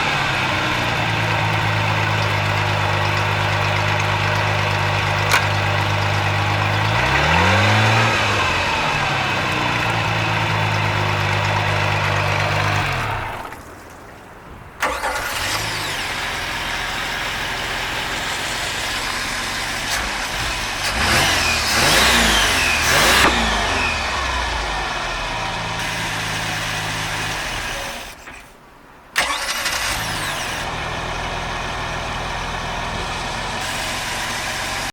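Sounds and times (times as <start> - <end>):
engine starting: 0.0 - 13.6, 14.8 - 24.8, 25.8 - 28.5, 29.2 - 30.8, 33.6 - 34.9
boat engine revving: 0.0 - 28.3, 29.2 - 34.9.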